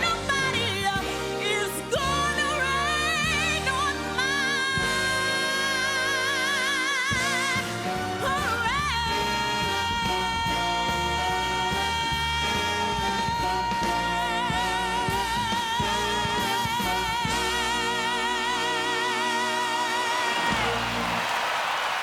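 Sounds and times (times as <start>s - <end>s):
band accompaniment: 0.0s - 22.0s.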